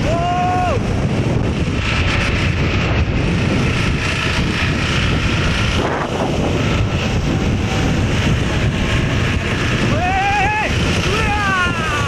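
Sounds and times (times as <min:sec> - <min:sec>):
wind buffeting microphone: 0:00.0 - 0:12.0
truck driving past: 0:00.8 - 0:11.2.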